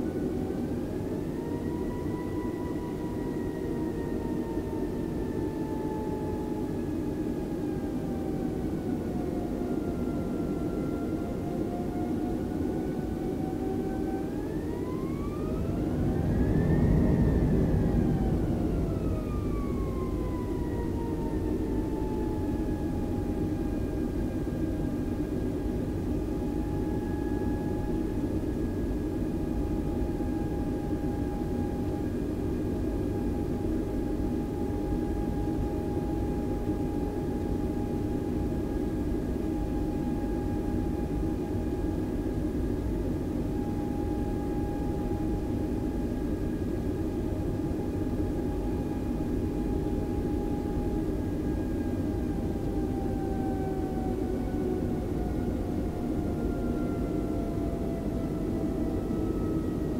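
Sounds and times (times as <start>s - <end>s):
engine and airflow rumble: 0.0s - 59.9s
jet engine whine: 0.0s - 59.9s.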